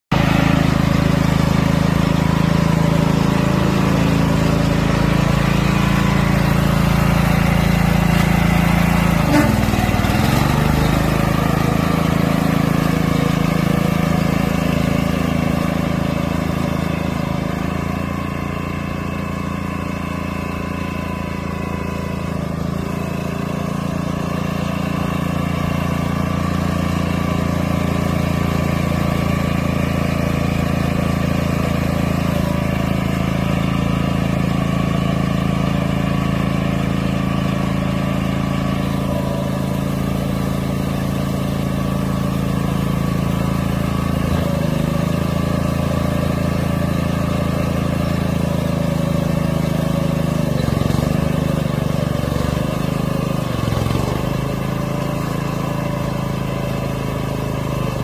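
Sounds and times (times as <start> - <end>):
small engine running: 0.1 - 58.0.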